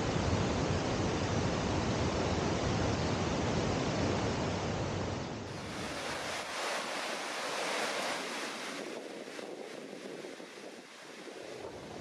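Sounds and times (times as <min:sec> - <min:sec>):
deep rumble of water: 0:00.0 - 0:12.0
waterfall and river rapids rushing: 0:00.0 - 0:12.0.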